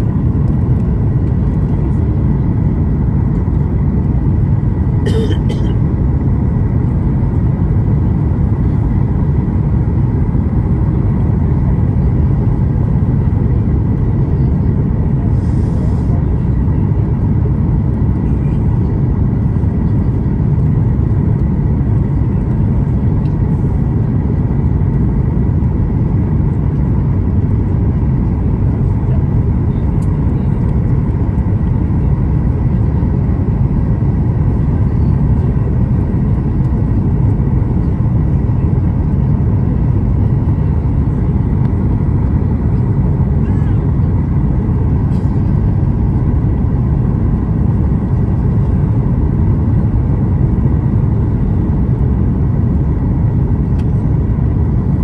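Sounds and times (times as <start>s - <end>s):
aircraft cabin rumble: 0.0s - 55.0s.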